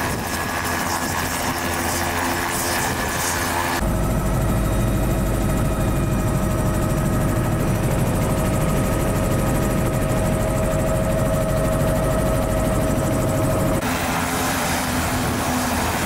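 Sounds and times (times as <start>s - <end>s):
helicopter cabin noise: 0.0s - 16.0s.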